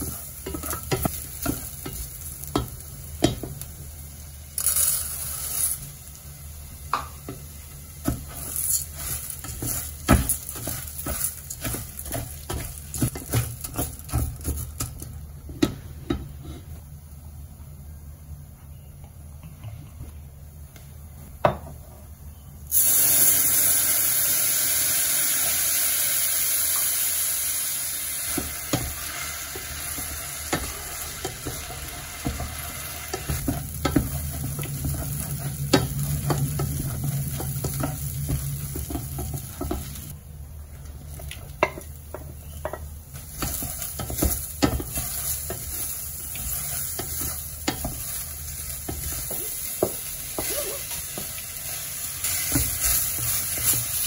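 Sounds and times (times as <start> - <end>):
wine sizzling in hot pan: 0.0 - 15.8, 22.7 - 54.0
rice frying: 0.0 - 18.0, 22.7 - 54.0.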